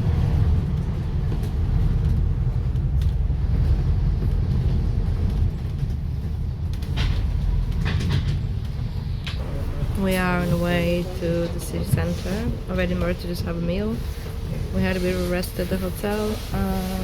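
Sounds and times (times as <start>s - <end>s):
bus rumbling: 0.0s - 17.0s.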